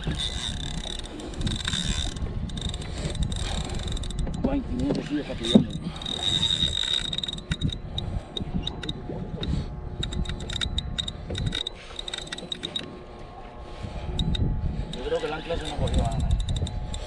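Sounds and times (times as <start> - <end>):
boat noise: 0.0 - 17.0
fishing reel drag ticking: 0.0 - 17.0
low wind rumble: 0.0 - 17.0.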